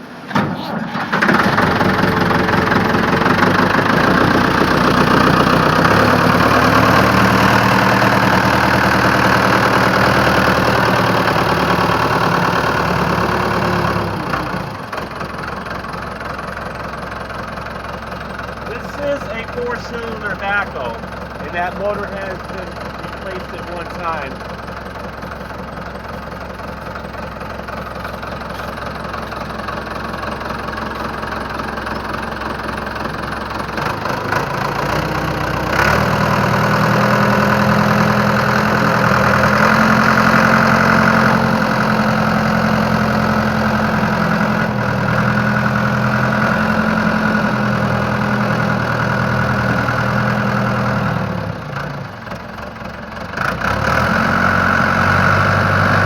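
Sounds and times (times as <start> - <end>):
backhoe engine idling and revving: 0.0 - 56.0.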